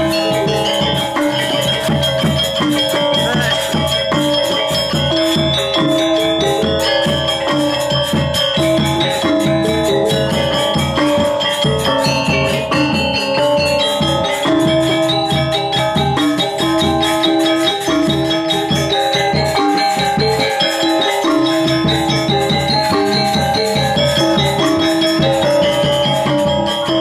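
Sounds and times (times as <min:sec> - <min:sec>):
gamelan metallophones: 0:00.0 - 0:27.0.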